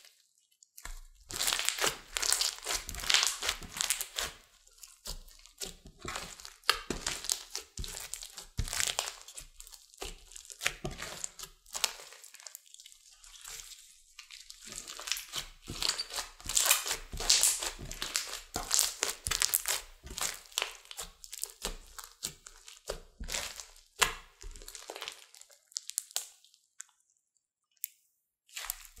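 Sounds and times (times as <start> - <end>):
slime squelching and crackling: 0.0 - 27.3, 28.5 - 29.0.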